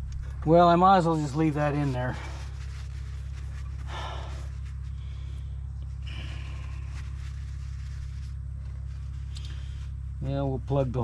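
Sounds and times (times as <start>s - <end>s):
pulsing low machine hum: 0.0s - 11.0s.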